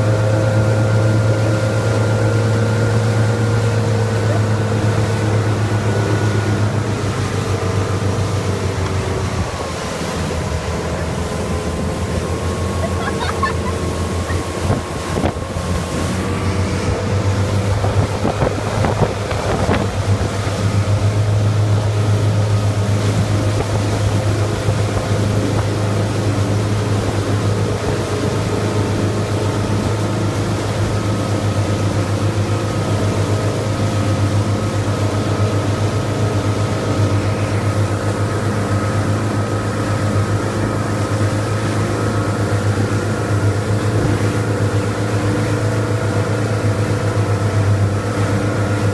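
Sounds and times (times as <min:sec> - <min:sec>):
motorboat engine drone: 0:00.0 - 0:48.9
rushing water: 0:00.0 - 0:48.9.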